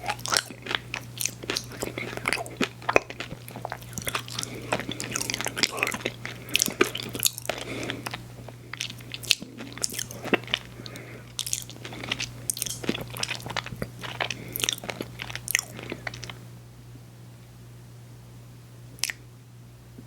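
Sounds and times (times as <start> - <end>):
crunchy chewing of ice cream: 0.0 - 16.5.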